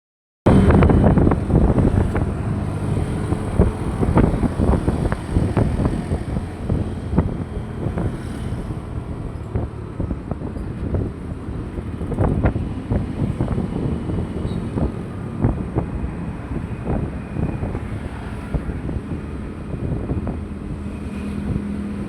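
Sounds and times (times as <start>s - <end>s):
vehicle low rumble: 0.5s - 22.0s
wind buffeting microphone: 0.5s - 22.0s.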